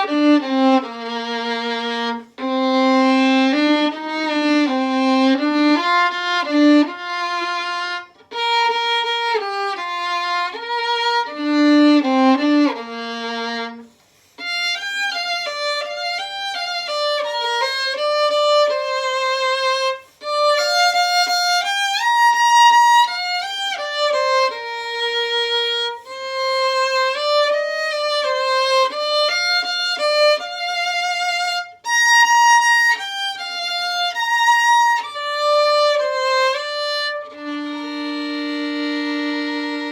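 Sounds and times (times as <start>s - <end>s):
solo violin melody: 0.0s - 39.9s.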